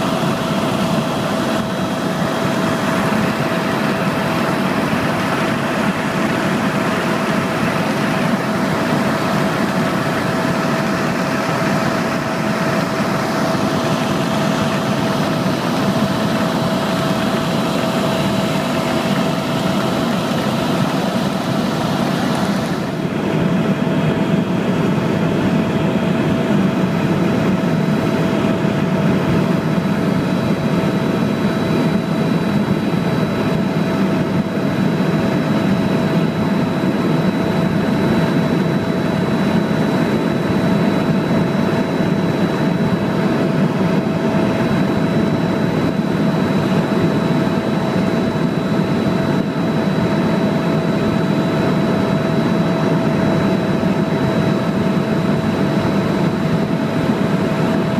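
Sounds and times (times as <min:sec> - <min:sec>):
helicopter engine and rotor: 0:00.0 - 0:57.9
thin steady whine: 0:00.0 - 0:57.9.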